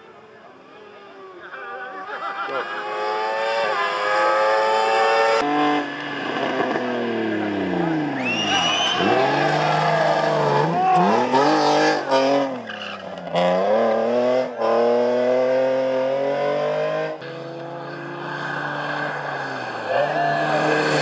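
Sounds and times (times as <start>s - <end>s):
race car engine accelerating: 2.5s - 21.0s.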